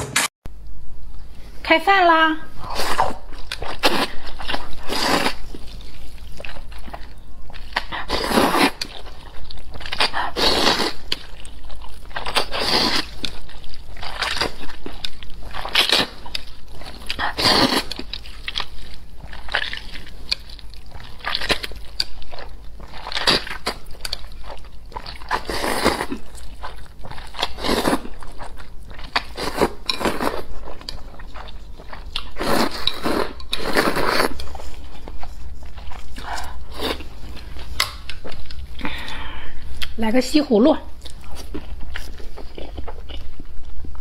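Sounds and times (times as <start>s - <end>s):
noodles slurping: 2.7s - 39.4s
chewing: 2.7s - 40.0s, 40.9s - 44.0s.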